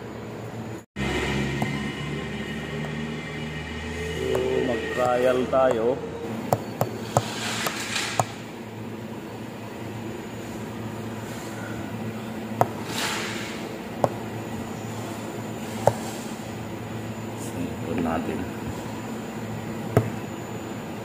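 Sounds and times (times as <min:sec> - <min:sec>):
factory machinery hum: 0:00.0 - 0:21.0.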